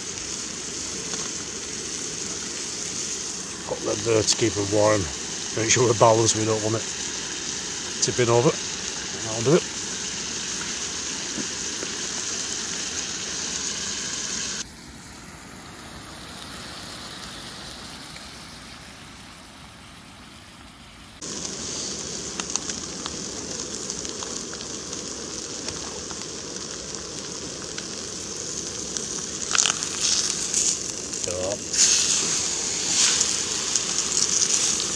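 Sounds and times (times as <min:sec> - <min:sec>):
steak sizzling in a frying pan: 0:00.0 - 0:14.6, 0:21.2 - 0:34.9.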